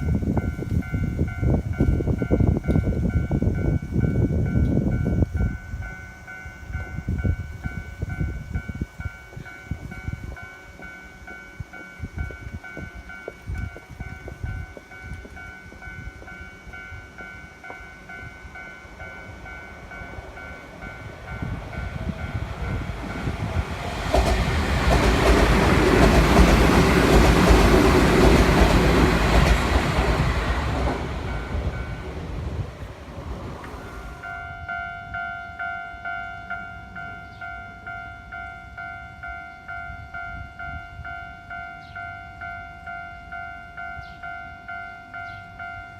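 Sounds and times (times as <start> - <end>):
railroad crossing bell ringing: 0.0 - 32.6, 33.7 - 45.9
electric train passing: 0.0 - 45.9.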